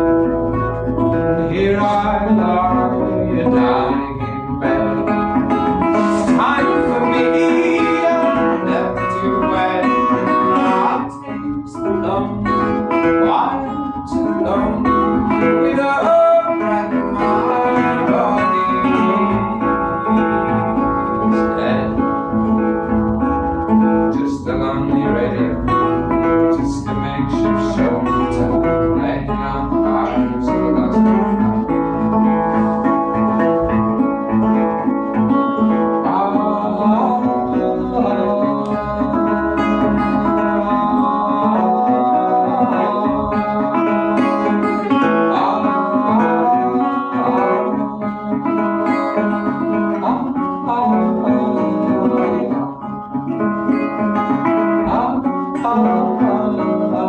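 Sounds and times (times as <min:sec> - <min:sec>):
resonator guitar strumming: 0:00.0 - 0:57.0.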